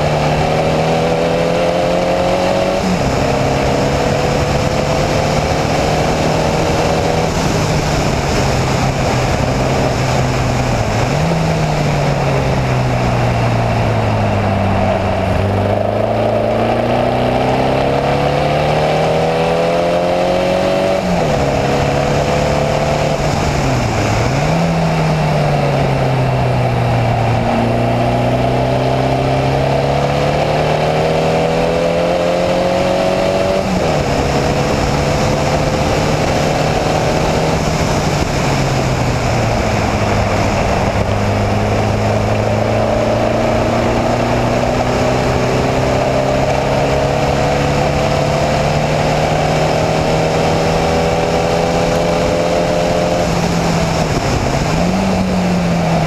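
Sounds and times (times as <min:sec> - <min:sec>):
race car engine running hard: 0:00.0 - 0:56.0
wind rush: 0:00.0 - 0:56.0.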